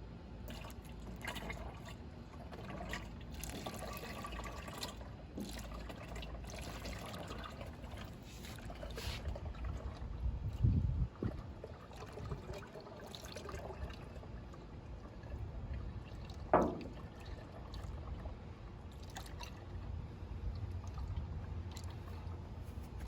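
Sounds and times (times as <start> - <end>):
oil trickling through funnel: 0.2 - 23.0.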